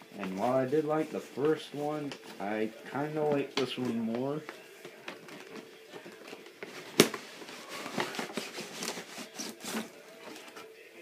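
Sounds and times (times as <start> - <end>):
packaging rustling: 0.1 - 10.7.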